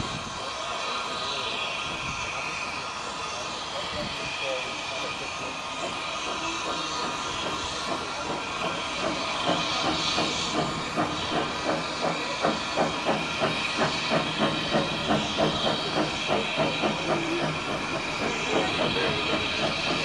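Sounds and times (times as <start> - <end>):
steam hissing: 0.0 - 20.0
steam locomotive chuffing: 0.0 - 20.0.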